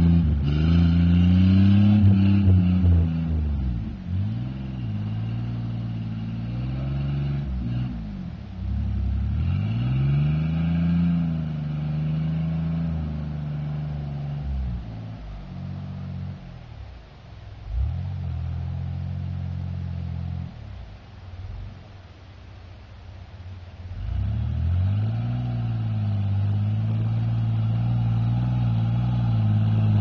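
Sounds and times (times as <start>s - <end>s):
truck engine revving: 0.0s - 16.8s, 17.6s - 20.8s, 23.9s - 30.0s.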